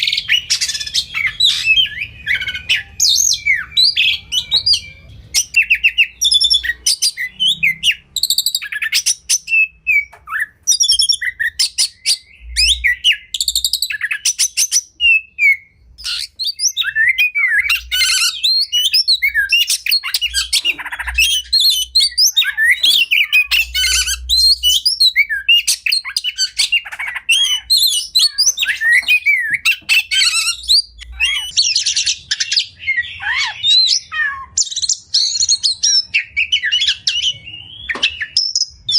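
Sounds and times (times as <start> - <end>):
songbird whistles and trills: 0.0 - 38.9.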